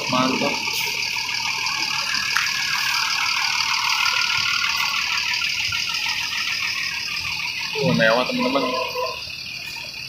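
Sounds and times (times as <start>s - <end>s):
coach engine and tyres: 0.0s - 10.0s.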